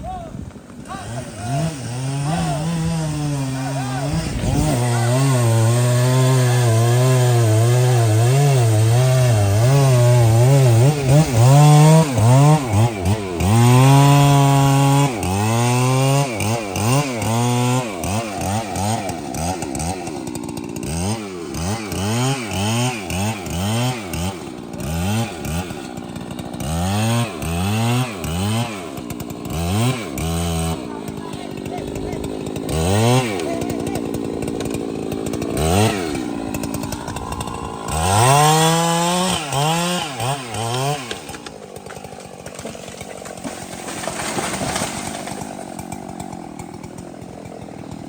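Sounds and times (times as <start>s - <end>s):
chainsaw cutting wood: 0.4s - 48.0s.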